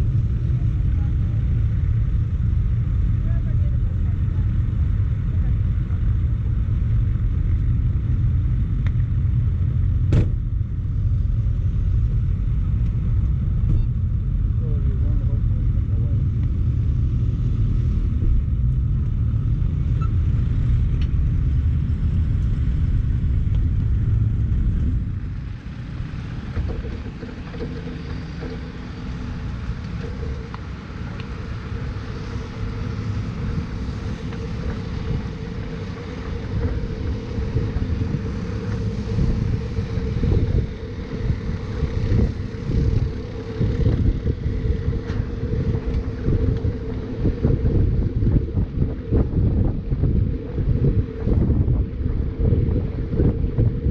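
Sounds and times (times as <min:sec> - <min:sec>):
car engine on track: 0:00.0 - 0:53.9
heavy low rumble: 0:00.0 - 0:53.9
rough road noise: 0:00.0 - 0:53.9
wind buffeting microphone: 0:00.0 - 0:53.9.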